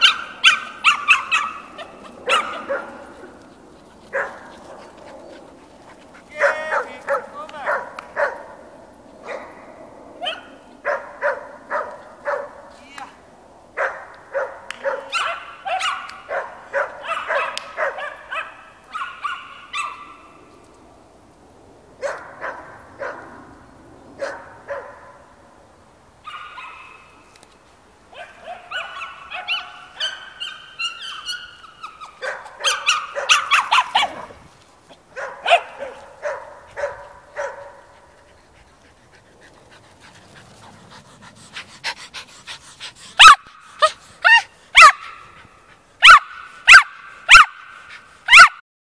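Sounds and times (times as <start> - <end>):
small dogs barking and yipping: 0.0 - 9.6, 10.2 - 12.7, 13.8 - 20.4, 26.2 - 27.2, 28.1 - 48.6.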